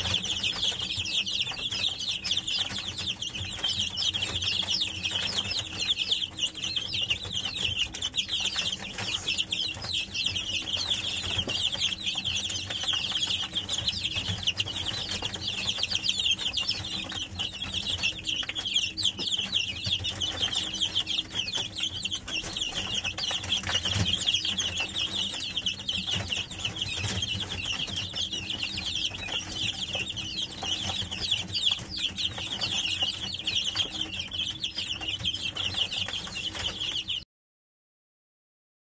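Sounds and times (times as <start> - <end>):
chicks peeping: 0.0 - 37.2.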